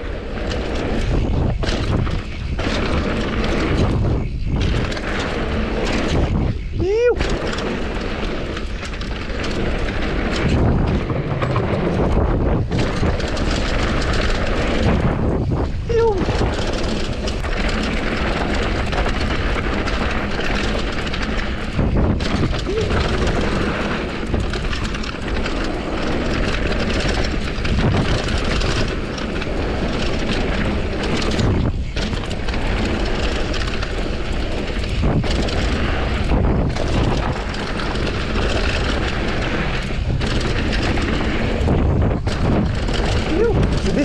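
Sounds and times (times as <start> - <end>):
bike rattling over rough ground: 0.0 - 44.0
tyres on dirt trail: 0.0 - 44.0
wind noise on microphone: 0.0 - 44.0.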